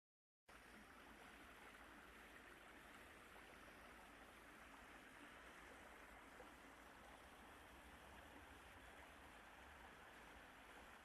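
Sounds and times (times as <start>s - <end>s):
stream flowing over rocks: 0.5s - 11.0s.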